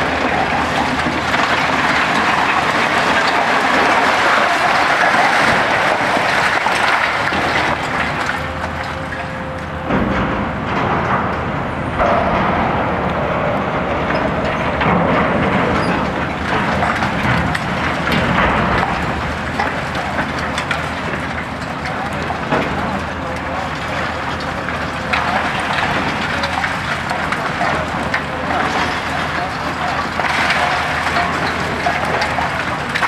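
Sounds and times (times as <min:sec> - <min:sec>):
concrete crackling and falling rubble: 0:00.0 - 0:33.0
excavator diesel engine and hydraulics: 0:00.0 - 0:33.0.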